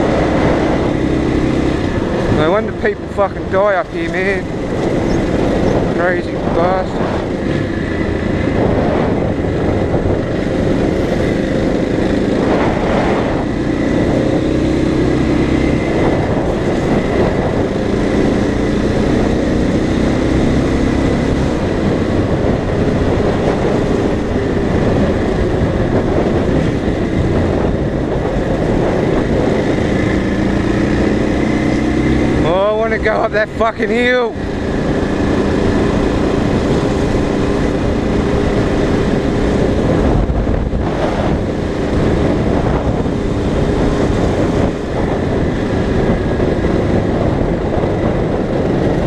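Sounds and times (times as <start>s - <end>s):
dirt bike engine running: 0.0s - 49.0s
wind rush on microphone: 0.0s - 49.0s.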